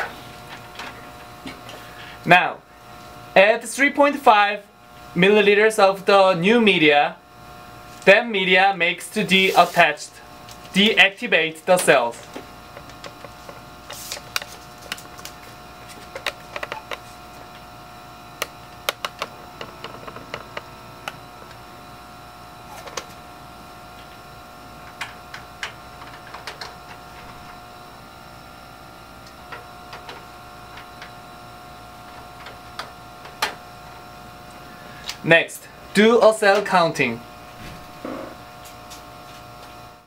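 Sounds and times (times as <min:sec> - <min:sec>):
cabinet blower humming: 0:00.0 - 0:40.0.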